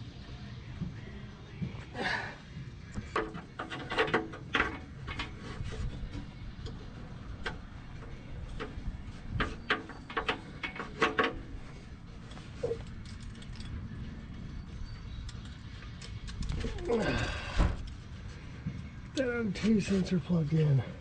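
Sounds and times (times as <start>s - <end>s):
metal parts and tools clanking: 2.9s - 20.1s.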